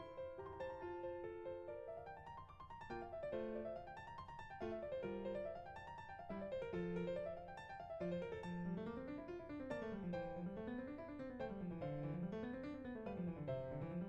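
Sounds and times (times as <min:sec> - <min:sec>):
piano arpeggios: 0:00.0 - 0:14.0.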